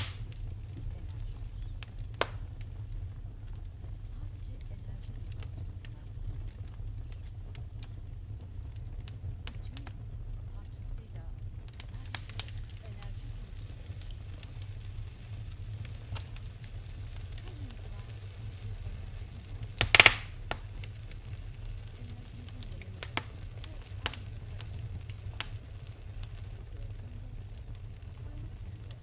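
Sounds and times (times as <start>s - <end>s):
fireplace fire crackling: 0.0s - 29.0s.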